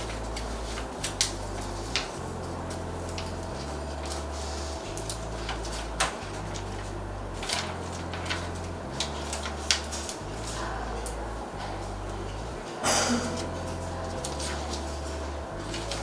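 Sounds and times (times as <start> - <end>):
paper crinkling and snapping: 0.0 - 11.3, 13.3 - 16.0
steady low hum: 0.0 - 16.0.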